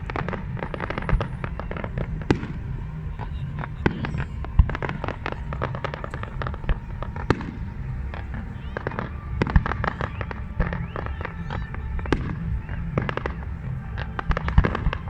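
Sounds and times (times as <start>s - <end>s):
fireworks crackling and banging: 0.0s - 15.0s
heavy fireworks booms: 0.0s - 15.0s.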